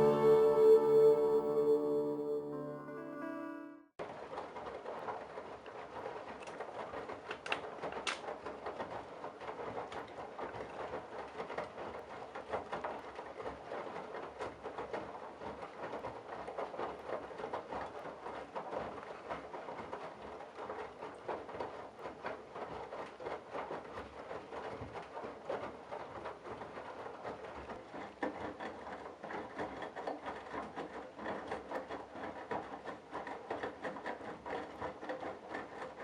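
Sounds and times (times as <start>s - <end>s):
water sloshing and splashing: 4.1s - 36.0s.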